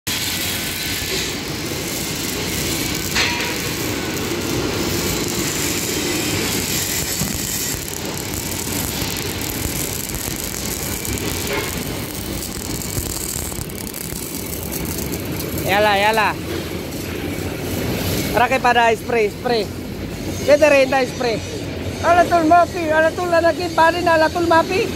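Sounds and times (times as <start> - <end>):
machinery noise: 0.1 - 24.9.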